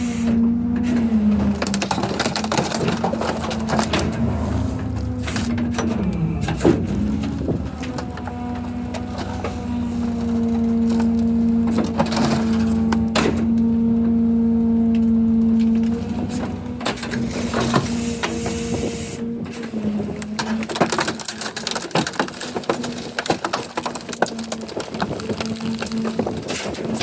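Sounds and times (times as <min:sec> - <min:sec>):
garbage truck compactor hum: 0:00.0 - 0:27.0
metal cracking and crunching: 0:00.3 - 0:13.8, 0:14.9 - 0:18.4, 0:19.4 - 0:27.0.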